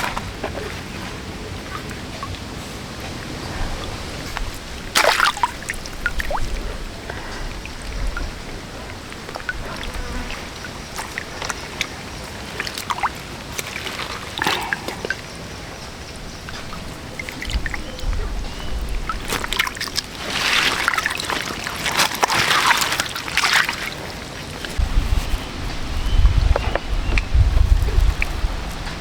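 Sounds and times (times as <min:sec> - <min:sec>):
water drips: 0:00.0 - 0:29.0
water sloshing and trickling: 0:00.0 - 0:29.0
water splashing: 0:00.0 - 0:29.0.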